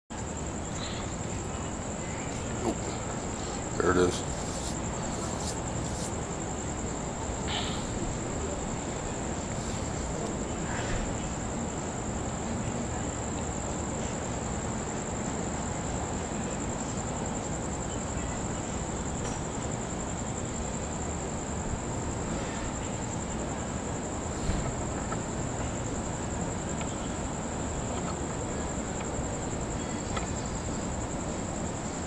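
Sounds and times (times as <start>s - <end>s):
crickets chirping: 0.1s - 32.0s
low background noise: 0.1s - 32.0s.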